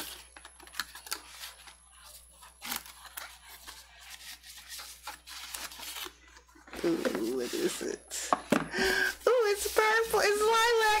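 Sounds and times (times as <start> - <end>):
cardboard and paper scraping and tearing: 0.0 - 7.9, 9.2 - 11.0.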